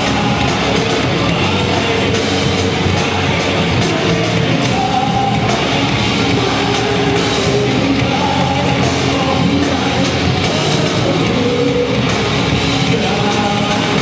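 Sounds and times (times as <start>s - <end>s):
loud rock music with singing: 0.0s - 14.0s.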